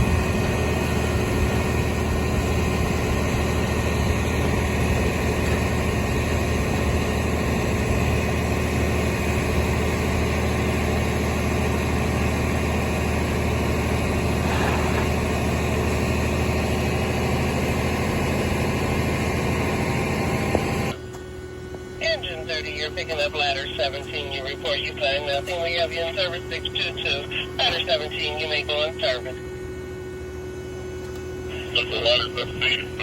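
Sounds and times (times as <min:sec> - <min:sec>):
fire truck engine idling: 0:00.0 - 0:33.0.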